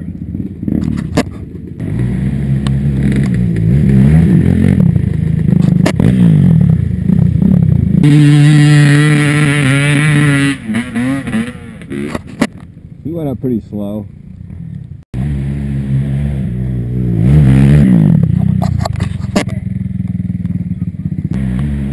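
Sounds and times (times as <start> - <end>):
small off-road engine revving: 0.0 - 12.5, 15.2 - 21.9.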